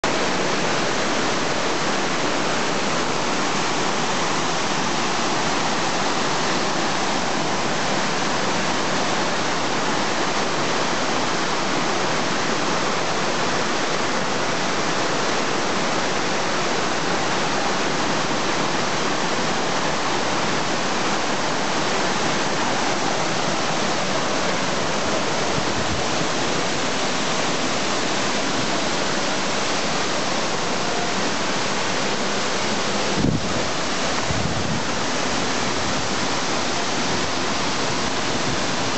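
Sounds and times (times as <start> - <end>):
waterfall rushing onto rocks: 0.0 - 38.9.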